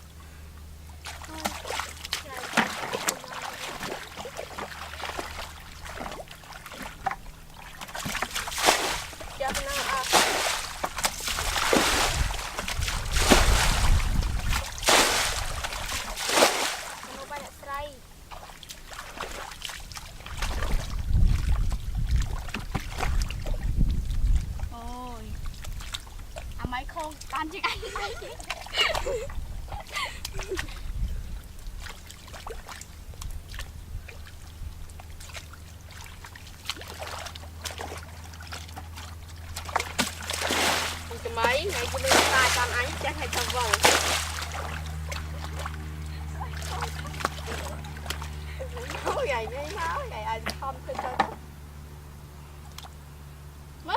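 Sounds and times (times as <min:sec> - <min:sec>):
steady low hum: 0:00.0 - 0:53.9
water splashing and sloshing: 0:00.0 - 0:53.9.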